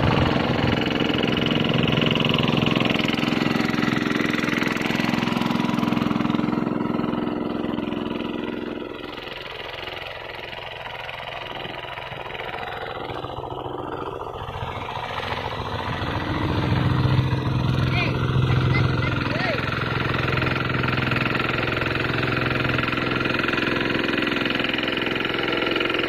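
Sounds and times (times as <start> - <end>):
hand tractor engine running: 0.0 - 26.0.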